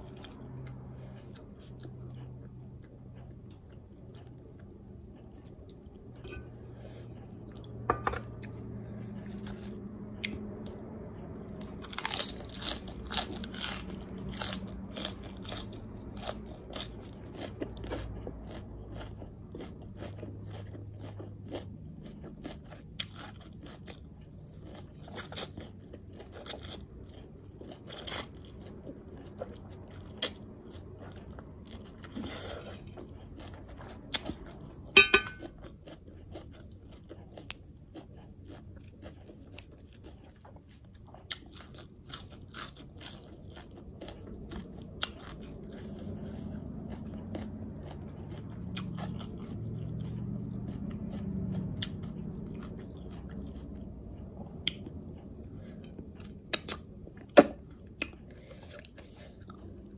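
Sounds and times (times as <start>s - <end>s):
crunchy food being chewed: 0.0s - 59.9s.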